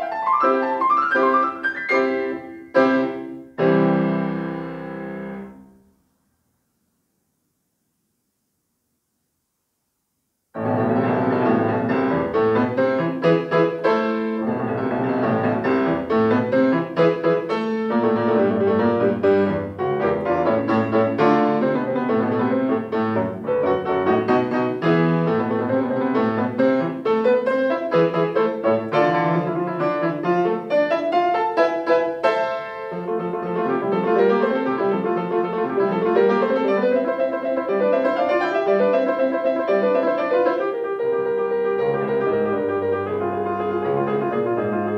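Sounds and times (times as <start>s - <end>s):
solo grand piano playing: 0.0s - 6.0s, 10.6s - 44.9s.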